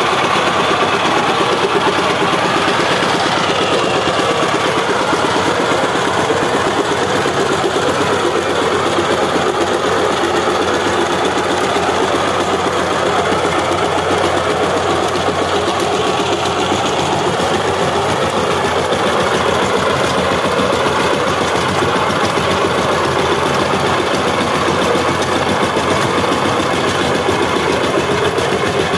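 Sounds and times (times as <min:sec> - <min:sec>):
power tiller engine running: 0:00.0 - 0:28.9.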